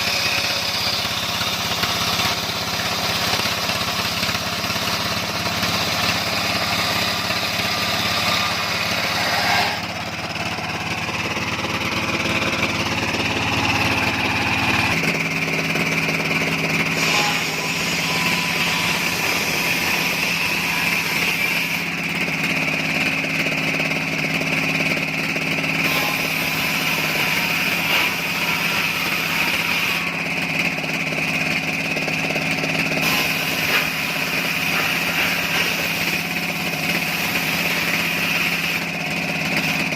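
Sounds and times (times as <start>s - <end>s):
engine drone: 0.0s - 39.9s
sawmill machinery high whine: 0.0s - 39.9s.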